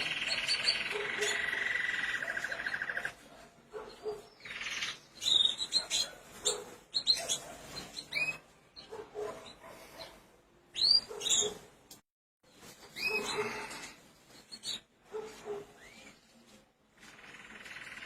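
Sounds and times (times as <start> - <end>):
canary chirping: 0.0 - 11.8, 12.8 - 18.0.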